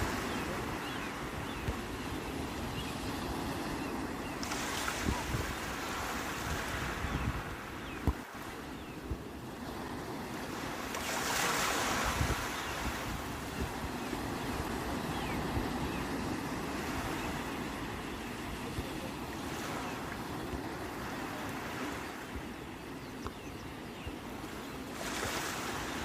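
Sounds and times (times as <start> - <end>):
sea waves washing in: 0.0 - 22.5.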